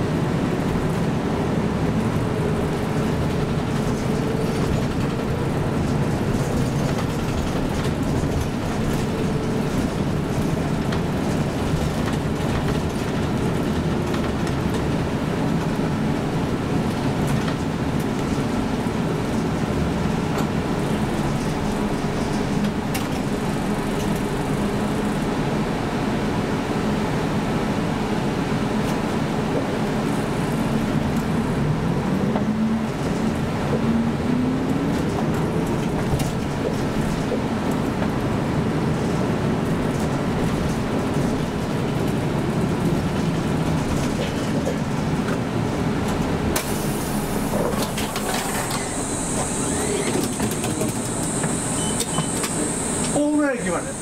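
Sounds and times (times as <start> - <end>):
bus engine: 0.0 - 54.0
road noise: 0.0 - 54.0.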